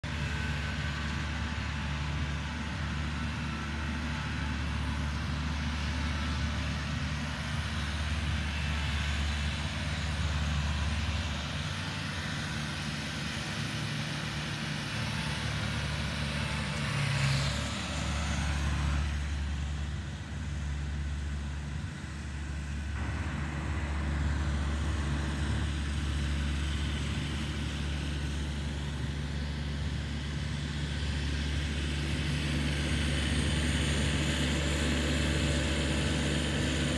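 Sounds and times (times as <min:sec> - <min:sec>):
low engine drone: 0:00.0 - 0:36.9.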